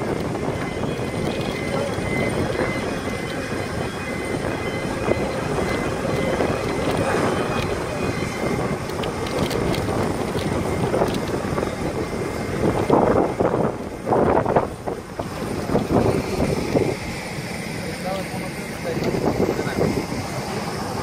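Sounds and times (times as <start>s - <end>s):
wind on microphone: 0.0s - 17.2s
airliner rushing noise: 0.0s - 21.0s.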